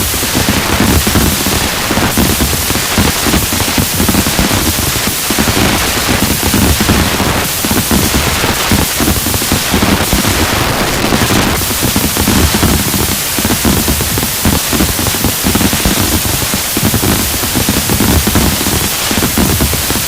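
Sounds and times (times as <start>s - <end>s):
fireworks popping and thumping: 0.0s - 20.0s
steady hiss: 0.0s - 20.0s.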